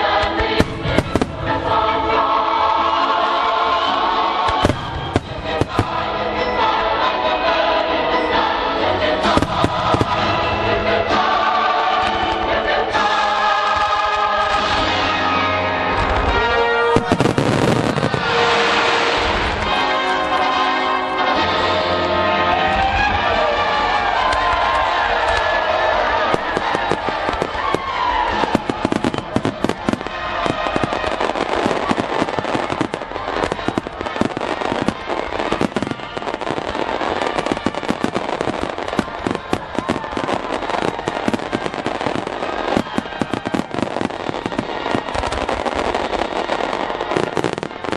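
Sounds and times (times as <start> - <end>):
fireworks bursting: 0.0 - 7.2, 9.0 - 20.8, 24.0 - 47.9
choral music: 0.0 - 47.9.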